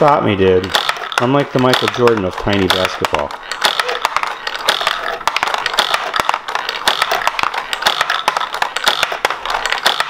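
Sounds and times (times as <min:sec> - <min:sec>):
plastic launchers snapping: 0:00.0 - 0:10.0
small balls clattering on plastic: 0:00.0 - 0:10.0.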